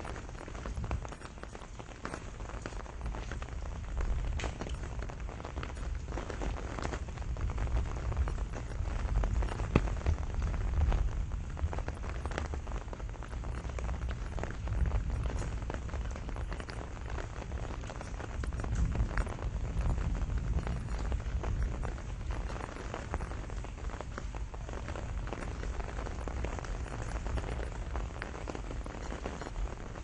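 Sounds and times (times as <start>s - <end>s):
rain pattering on leaves: 0.0s - 30.0s
steady low rumble: 0.0s - 30.0s.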